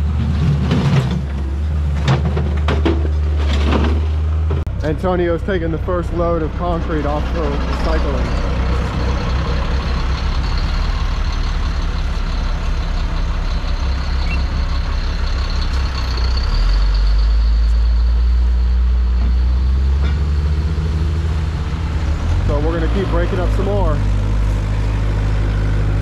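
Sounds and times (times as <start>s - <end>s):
truck engine accelerating: 0.0s - 26.0s.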